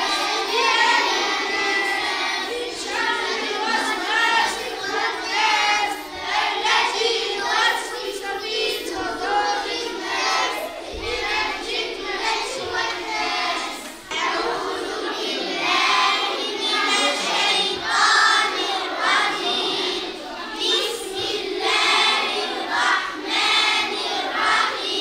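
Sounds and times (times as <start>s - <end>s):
children chanting in unison: 0.0s - 25.0s.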